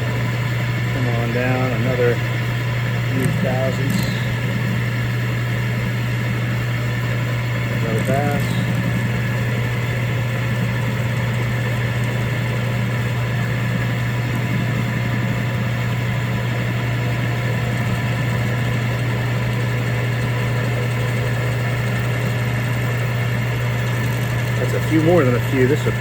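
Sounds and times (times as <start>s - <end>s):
drill press motor hum: 0.0s - 26.0s
end mill cutting metal: 0.0s - 26.0s.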